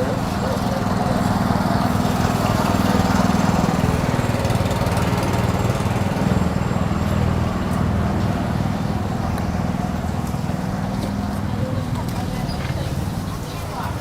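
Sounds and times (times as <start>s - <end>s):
busy street market noise: 0.0s - 14.0s
small engine putter: 0.0s - 14.0s.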